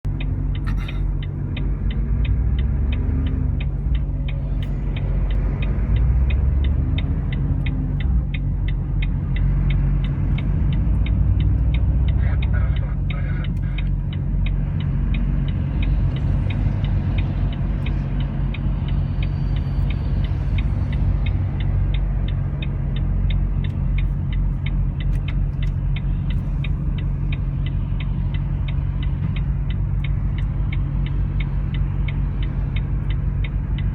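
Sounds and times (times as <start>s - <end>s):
vehicle engine rumbling: 0.0s - 33.9s
regular ticking: 0.1s - 33.9s.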